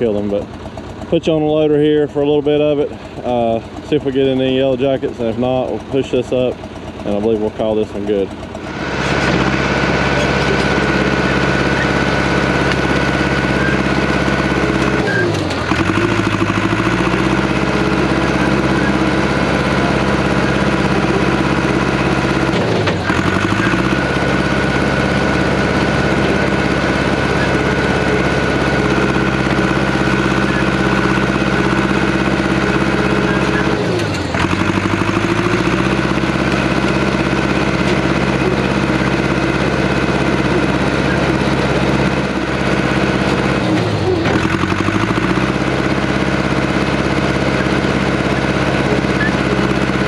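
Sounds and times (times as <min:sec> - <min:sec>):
loader engine running: 0:00.0 - 0:50.0.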